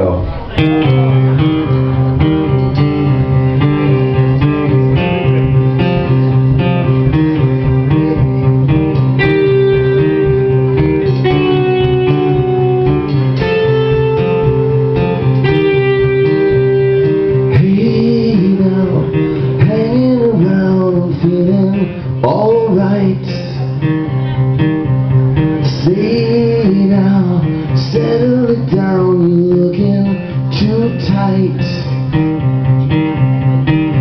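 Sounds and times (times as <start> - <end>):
guitars playing low riff: 0.0 - 34.0
melody of long held notes: 0.3 - 34.0.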